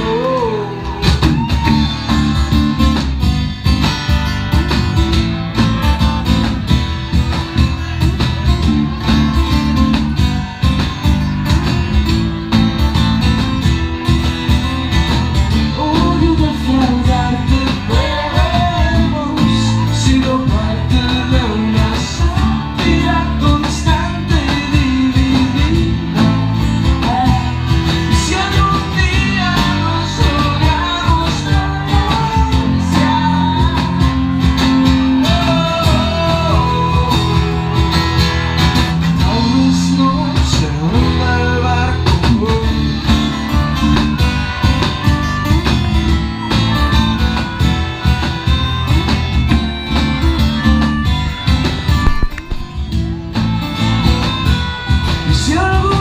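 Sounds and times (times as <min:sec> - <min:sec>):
guitar melodic lead: 0:00.0 - 0:56.0
live band music: 0:00.0 - 0:56.0.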